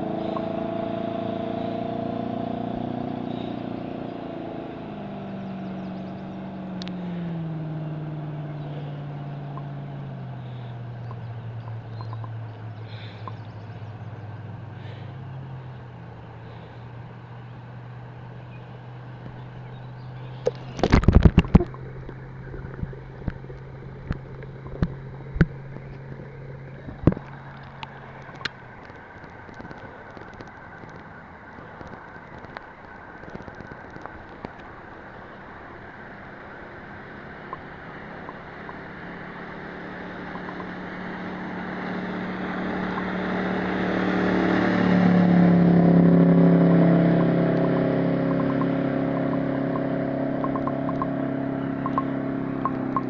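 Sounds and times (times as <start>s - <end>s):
boat engine passing by: 0.0s - 53.0s.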